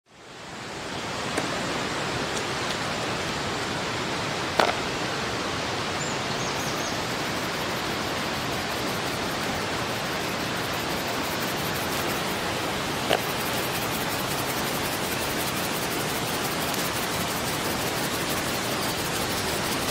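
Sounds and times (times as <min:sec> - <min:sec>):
river water rushing: 0:00.2 - 0:19.9.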